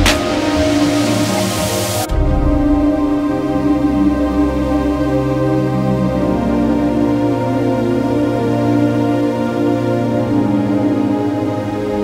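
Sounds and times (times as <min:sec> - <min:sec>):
music with slow sustained chords: 0:00.0 - 0:12.0.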